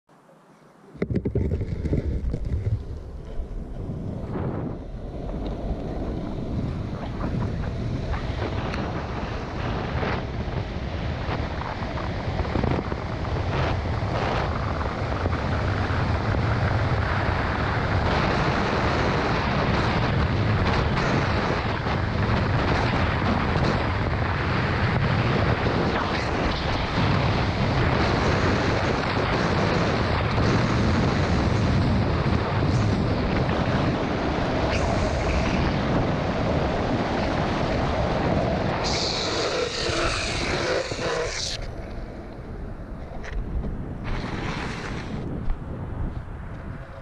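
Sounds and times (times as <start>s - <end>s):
wheels rolling on asphalt: 0.9s - 47.0s
wind rushing over microphone: 0.9s - 47.0s.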